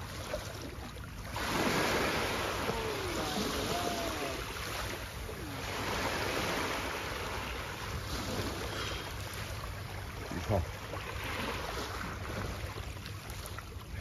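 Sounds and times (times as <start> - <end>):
waves breaking over rocks: 0.0 - 14.0.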